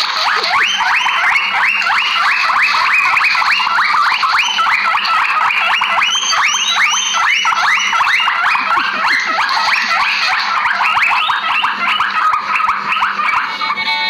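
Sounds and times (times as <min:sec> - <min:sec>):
guinea pigs wheeking: 0:00.0 - 0:14.0.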